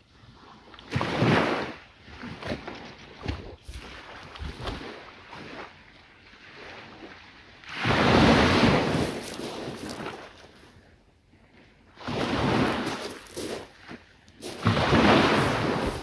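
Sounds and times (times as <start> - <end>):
waves breaking on beach: 0.2 - 10.8, 11.4 - 16.0.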